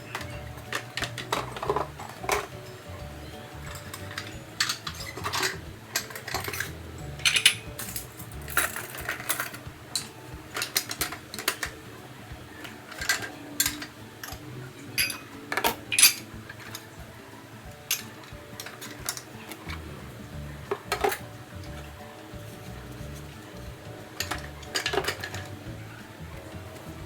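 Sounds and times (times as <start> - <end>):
small hard objects clinking: 0.0 - 27.0
soft background music: 0.0 - 27.0.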